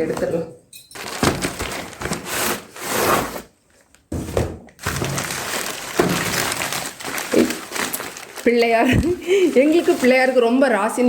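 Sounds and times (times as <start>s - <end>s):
gift wrapping rustling and crackling: 1.0s - 4.2s, 4.8s - 11.0s.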